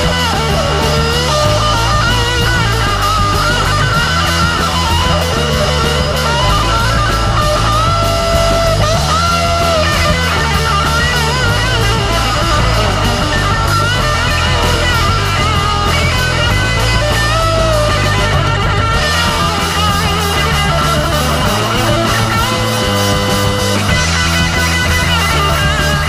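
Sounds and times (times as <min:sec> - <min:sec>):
bass guitar: 0:00.0 - 0:26.0
drums with cymbals: 0:00.0 - 0:26.0
electric guitar melody: 0:00.0 - 0:26.0.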